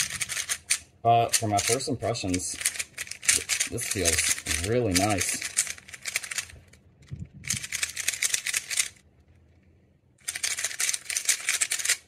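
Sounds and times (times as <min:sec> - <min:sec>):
speed cube turning clicks: 0:00.0 - 0:06.6, 0:07.4 - 0:09.0, 0:10.2 - 0:12.0.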